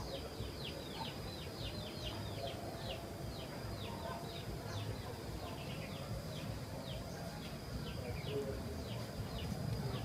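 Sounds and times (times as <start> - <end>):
bird chirping: 0.0 - 10.0
high-pitched insect whine: 0.0 - 10.0.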